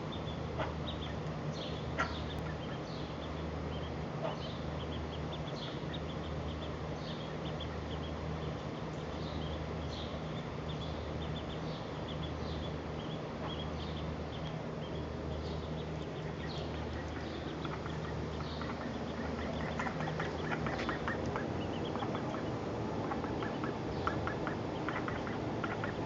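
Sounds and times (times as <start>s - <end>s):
low steady hum: 0.0s - 26.0s
duckling peeping: 0.1s - 26.0s.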